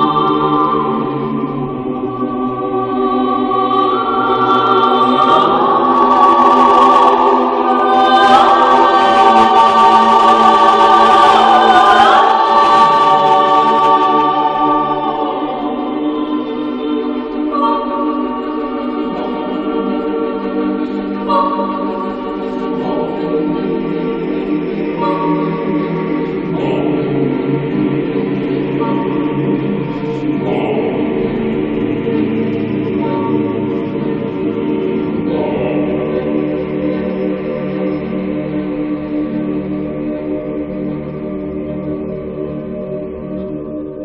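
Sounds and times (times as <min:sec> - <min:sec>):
choir singing long chords: 0:00.0 - 0:44.0.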